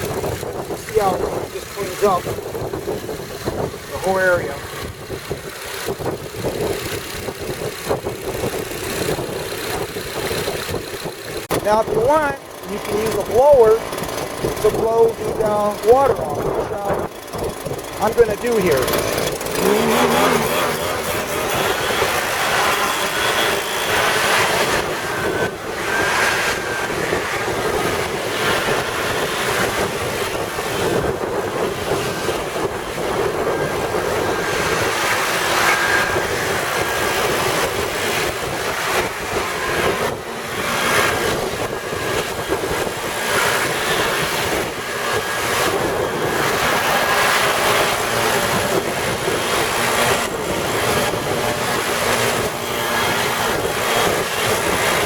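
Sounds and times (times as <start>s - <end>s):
air blower running: 0.0s - 55.0s.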